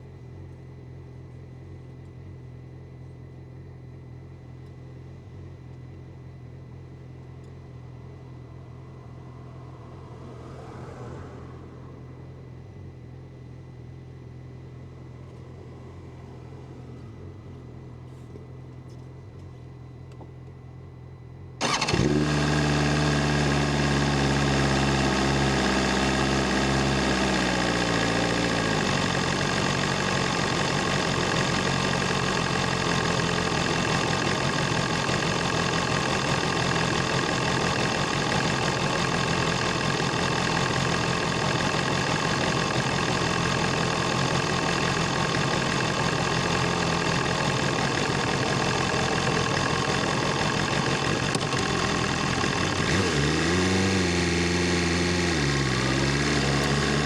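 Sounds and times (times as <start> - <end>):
motorcycle engine starting and idling: 0.0 - 57.0.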